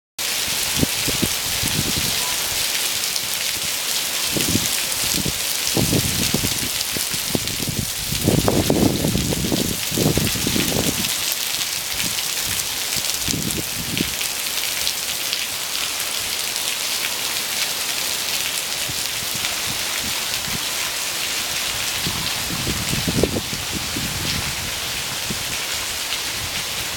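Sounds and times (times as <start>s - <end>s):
heavy downpour hiss: 0.2s - 26.9s.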